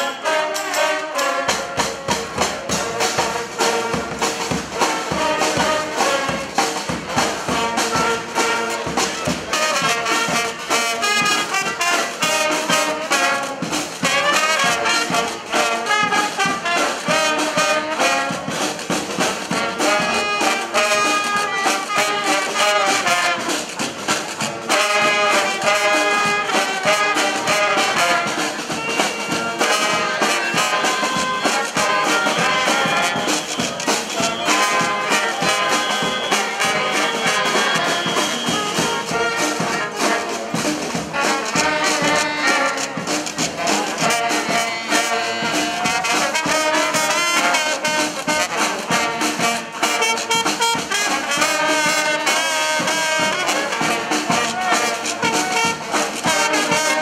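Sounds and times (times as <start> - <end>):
drums keeping a steady beat: 0.0 - 57.0
trumpets and trombones: 0.0 - 57.0.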